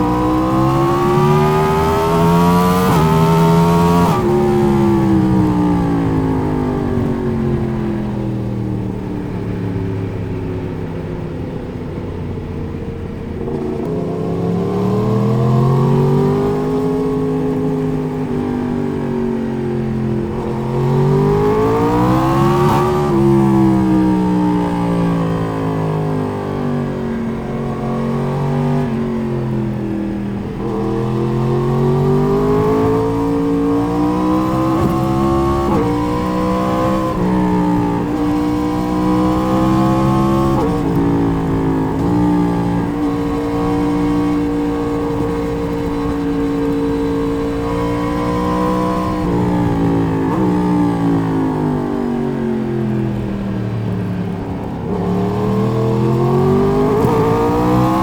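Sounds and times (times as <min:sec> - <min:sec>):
motorcycle engine upshifting: 0:00.0 - 0:58.0.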